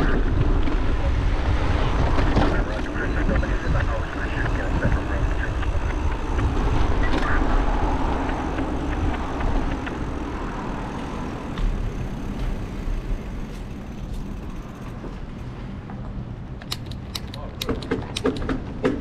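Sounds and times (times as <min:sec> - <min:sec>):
wind rumble on microphone: 0:00.0 - 0:16.5
passing traffic: 0:00.0 - 0:19.0.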